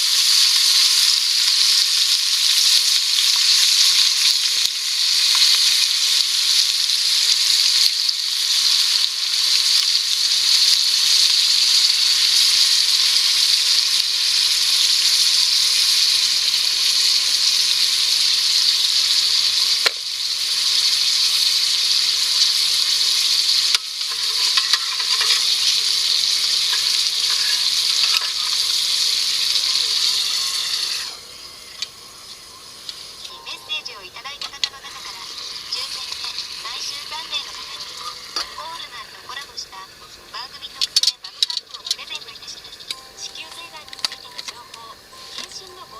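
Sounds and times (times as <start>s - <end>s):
food sizzling in a hot pan: 0.0s - 45.9s.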